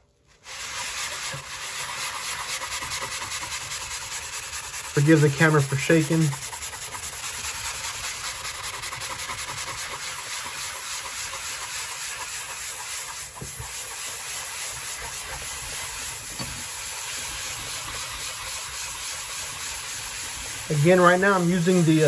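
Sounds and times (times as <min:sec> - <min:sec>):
sanding sponge scratching glass: 0:00.3 - 0:22.0.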